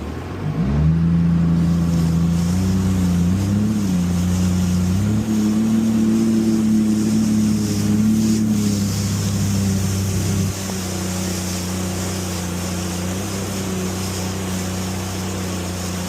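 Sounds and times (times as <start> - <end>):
jet ski engine running: 0.0 - 16.0.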